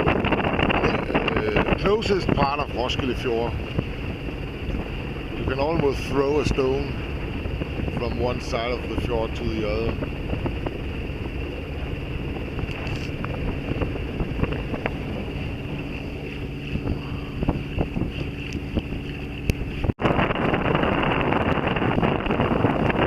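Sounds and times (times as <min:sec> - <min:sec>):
inboard diesel engine running: 0:00.0 - 0:23.0
wind buffeting microphone: 0:00.0 - 0:23.0.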